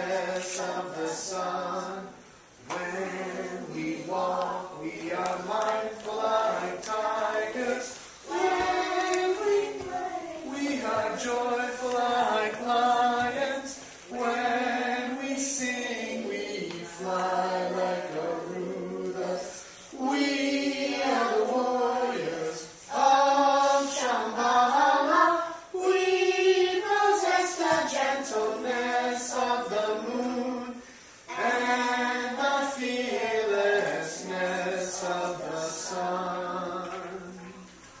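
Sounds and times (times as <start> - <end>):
children's chorus singing: 0.0 - 38.0.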